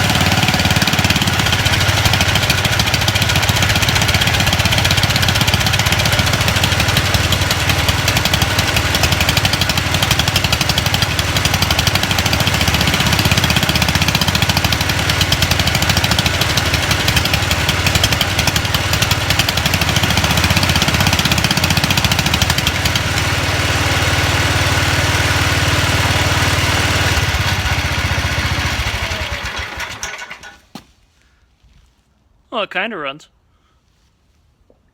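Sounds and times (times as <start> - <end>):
small tractor engine running roughly: 0.0 - 30.6.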